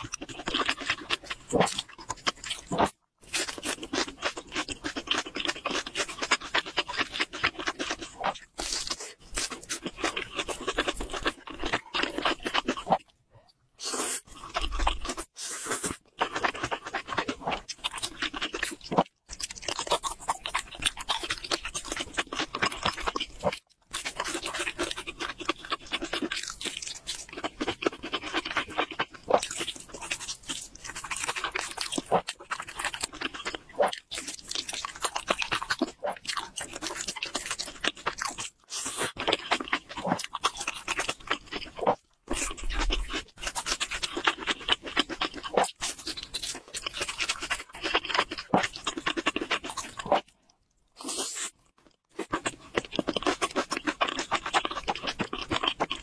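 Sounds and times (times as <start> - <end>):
chewing with crunching: 0.0 - 56.0.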